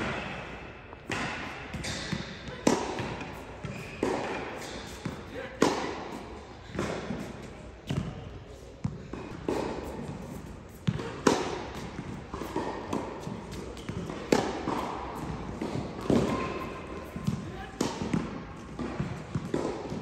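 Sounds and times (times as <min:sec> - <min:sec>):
racket striking tennis ball: 0:00.0 - 0:08.1, 0:08.8 - 0:20.0.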